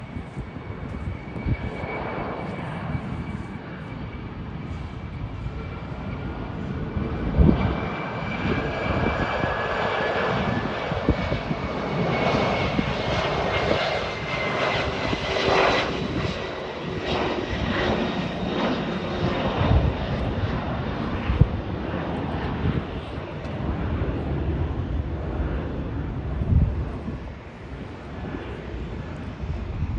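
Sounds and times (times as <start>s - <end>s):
jet roar with high whine: 0.0s - 29.9s.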